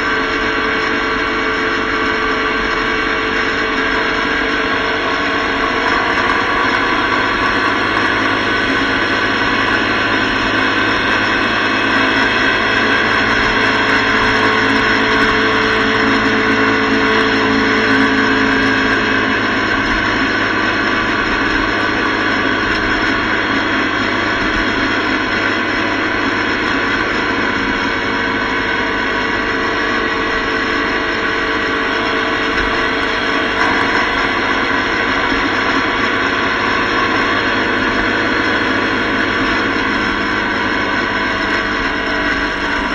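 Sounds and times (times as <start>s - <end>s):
motorcycle engine running: 0.0s - 42.9s
road noise: 0.0s - 42.9s.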